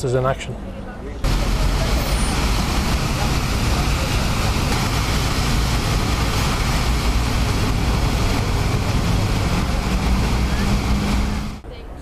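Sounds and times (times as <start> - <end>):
boat engines droning: 0.2 - 12.0
water churning: 1.2 - 11.6.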